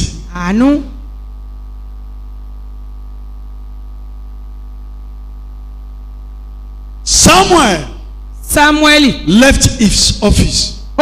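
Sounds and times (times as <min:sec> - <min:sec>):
electrical hum with buzz: 0:00.0 - 0:11.0.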